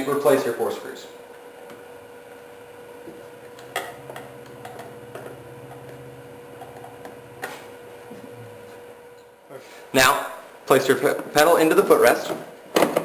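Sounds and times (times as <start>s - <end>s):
low faint hum: 0.0s - 11.4s.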